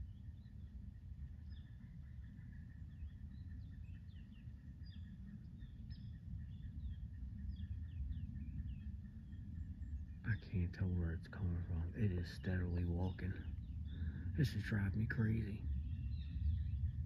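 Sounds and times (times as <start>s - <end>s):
low outdoor background rumble: 0.0s - 17.0s.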